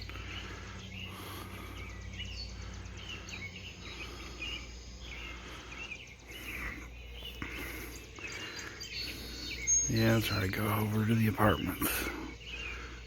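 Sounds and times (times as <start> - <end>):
small bird chirping: 0.0 - 13.0
steady low hum: 0.0 - 13.0.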